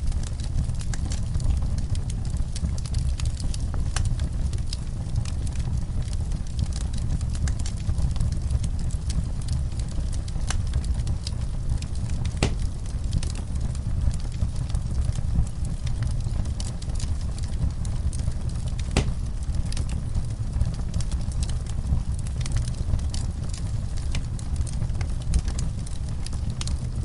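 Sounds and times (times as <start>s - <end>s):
fire crackling in fireplace: 0.0s - 27.0s.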